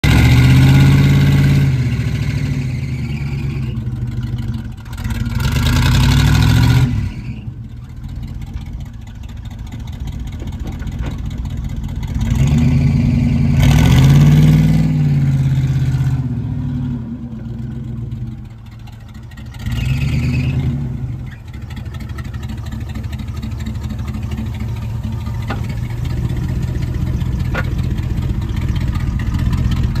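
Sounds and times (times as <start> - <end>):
truck engine idling and revving: 0.0 - 30.0.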